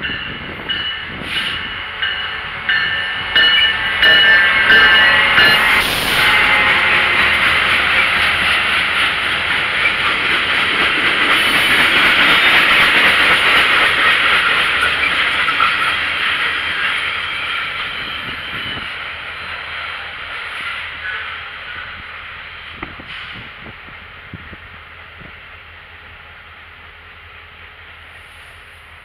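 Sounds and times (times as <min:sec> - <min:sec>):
train wheels rolling on rails: 0:00.0 - 0:27.0.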